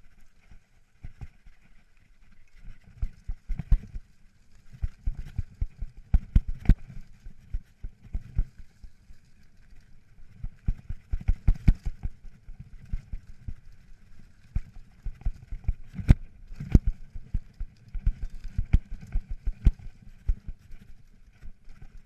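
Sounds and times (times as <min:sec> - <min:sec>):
bike rattling over rocks: 0:02.8 - 0:22.0.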